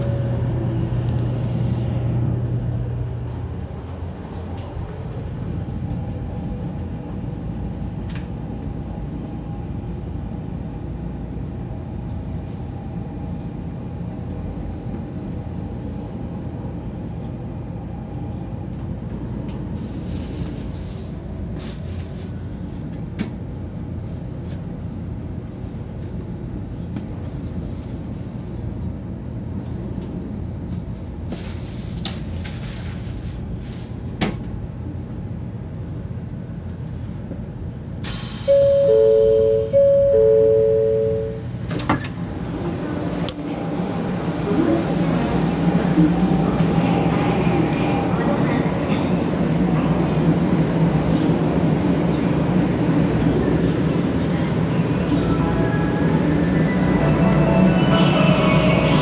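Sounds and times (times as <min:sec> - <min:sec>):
train interior rumble: 0:00.0 - 0:59.0.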